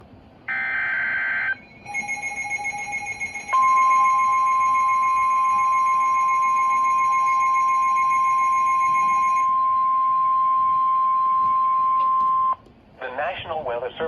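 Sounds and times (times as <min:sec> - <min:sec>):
digital header tones: 0:00.5 - 0:12.6
steady warning alarm tone: 0:00.5 - 0:12.6.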